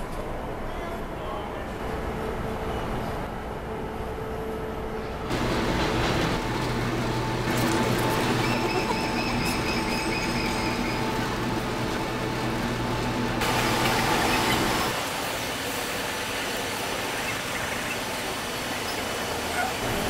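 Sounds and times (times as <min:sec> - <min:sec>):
low machinery hum: 0:00.0 - 0:20.0
ventilation rushing noise: 0:00.0 - 0:20.0.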